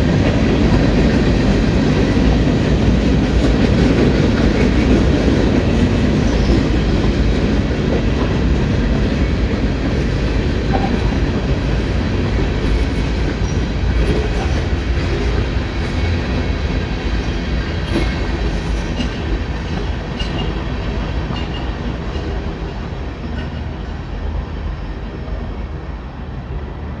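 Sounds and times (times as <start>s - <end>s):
freight train wheels rumbling on rails: 0.0s - 27.0s.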